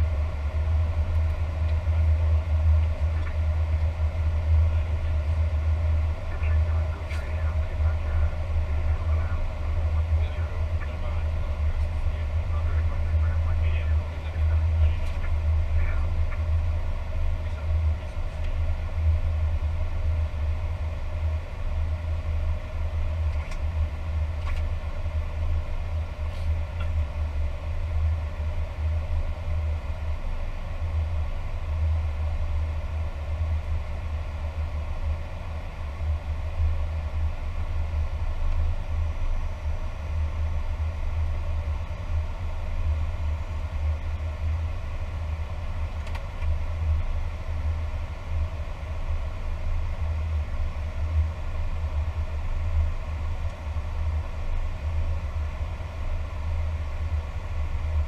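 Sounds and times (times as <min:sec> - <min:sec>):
faint even hum: 0:00.0 - 0:58.0
low rumble of airflow and engines: 0:00.0 - 0:58.0.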